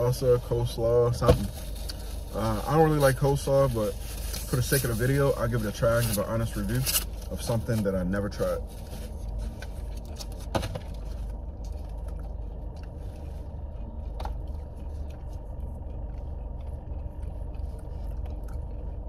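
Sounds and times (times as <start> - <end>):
car cabin hum: 0.0 - 19.0.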